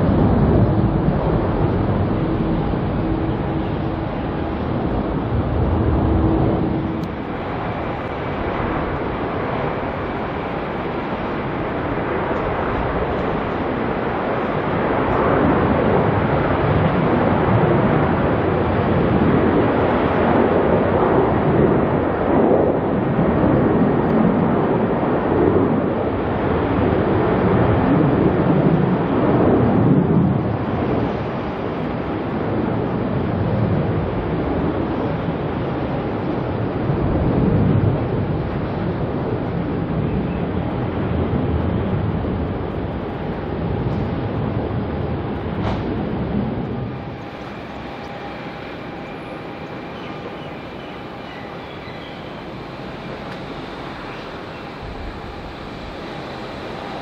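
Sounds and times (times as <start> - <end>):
jet engine rushing: 0.0 - 57.0
steady low hum: 0.0 - 57.0
wind buffeting microphone: 0.0 - 57.0.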